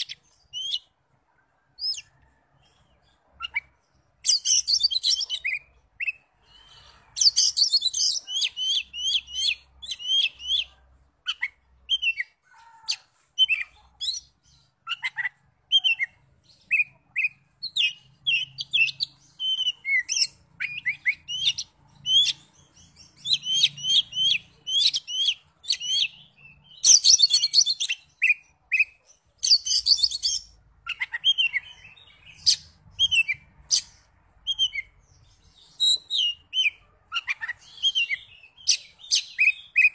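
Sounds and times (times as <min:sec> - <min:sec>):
bird singing whistles and chirps: 0:03.4 - 0:10.7, 0:13.4 - 0:39.9.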